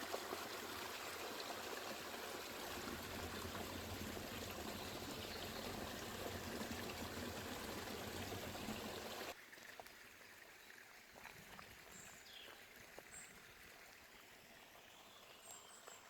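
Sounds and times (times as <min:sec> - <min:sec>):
stream running: 0:00.0 - 0:16.0.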